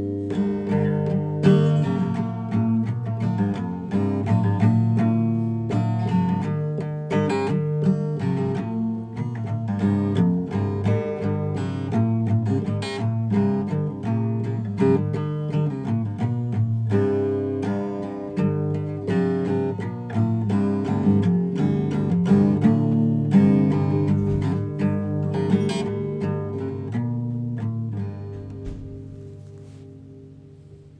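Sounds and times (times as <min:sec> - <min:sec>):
acoustic guitar playing: 0:00.0 - 0:30.9.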